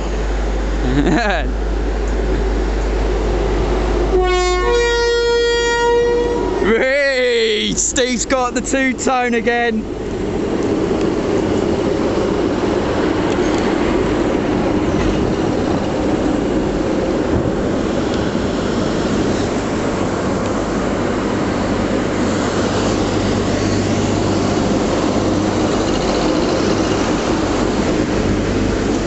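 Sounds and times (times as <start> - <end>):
electric locomotive hum: 0.0 - 29.0
train wheels rumbling on rails: 0.0 - 29.0.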